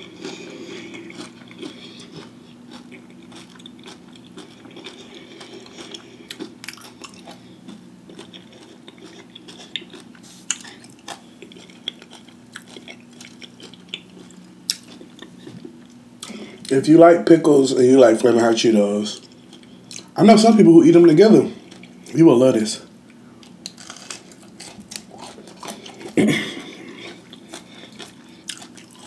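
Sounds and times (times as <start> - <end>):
crunchy chewing: 0.0 - 16.7, 18.0 - 20.2, 21.5 - 22.1, 23.1 - 29.0
faint low hum: 0.0 - 29.0.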